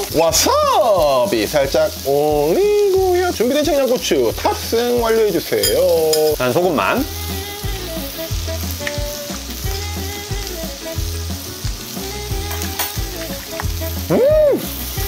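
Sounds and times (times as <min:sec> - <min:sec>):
meat sizzling on grill: 0:00.0 - 0:15.0.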